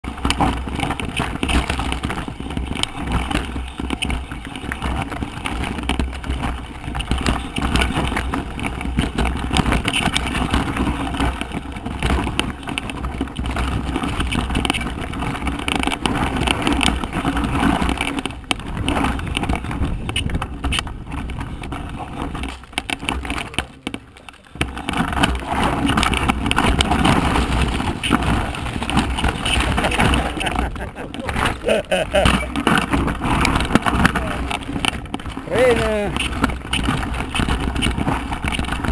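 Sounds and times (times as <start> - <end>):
bike rattling: 0.0 - 38.9
tyres crunching over stones: 0.0 - 38.9.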